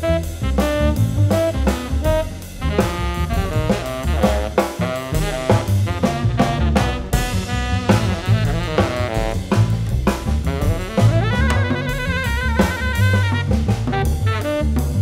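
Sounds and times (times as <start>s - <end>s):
drum kit: 0.0s - 15.0s
saxophone melody: 0.0s - 15.0s
upright double bass: 0.0s - 15.0s.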